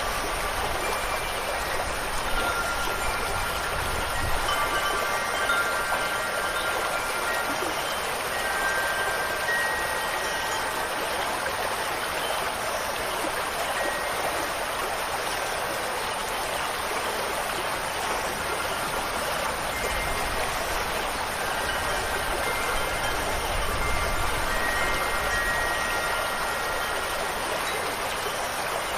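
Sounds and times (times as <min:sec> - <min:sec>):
wind chime tones: 0:00.0 - 0:15.2, 0:18.2 - 0:28.9
water rushing: 0:00.0 - 0:28.9.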